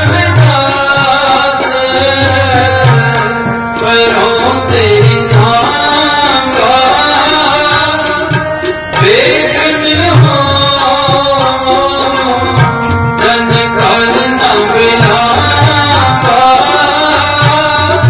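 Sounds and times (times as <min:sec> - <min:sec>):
harmonium: 0:00.0 - 0:18.0
man singing: 0:00.0 - 0:18.0.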